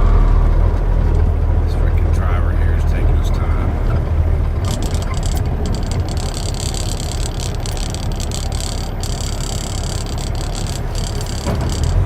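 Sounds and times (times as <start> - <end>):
truck engine drone: 0.0 - 12.0
tyre and road noise: 0.0 - 12.0.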